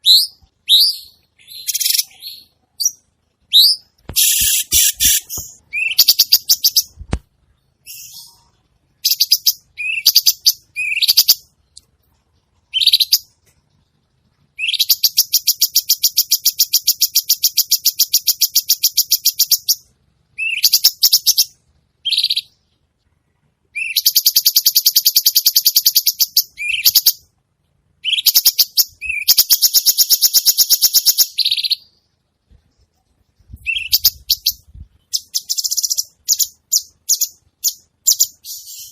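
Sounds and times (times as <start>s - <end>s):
songbird chattering and trilling: 0.0s - 7.0s, 7.8s - 11.8s, 12.6s - 13.3s, 14.6s - 22.6s, 23.8s - 27.2s, 28.0s - 32.0s, 33.5s - 38.9s.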